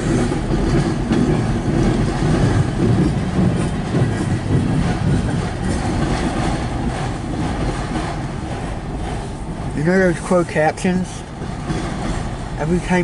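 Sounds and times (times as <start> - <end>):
train rail rumble: 0.0 - 13.0
wheels clacking over rail joints: 0.0 - 13.0.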